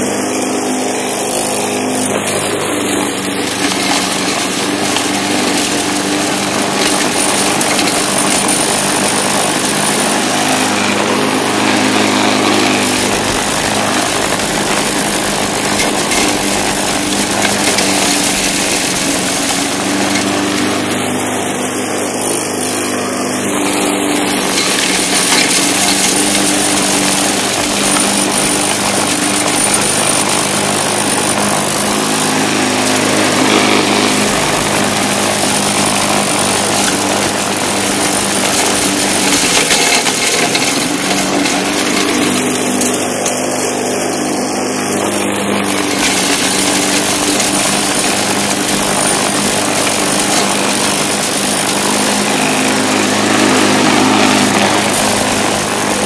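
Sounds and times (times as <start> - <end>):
lawn mower cutting grass: 0.0 - 56.0.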